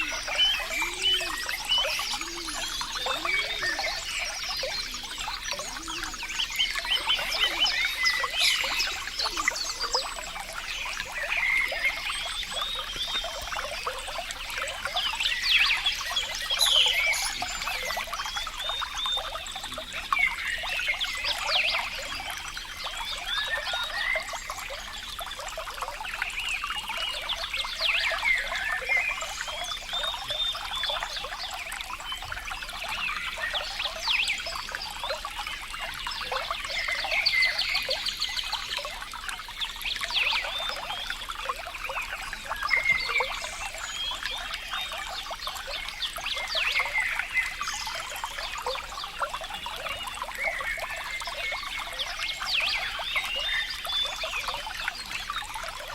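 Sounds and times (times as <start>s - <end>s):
water trickling and gurgling: 0.0s - 55.9s.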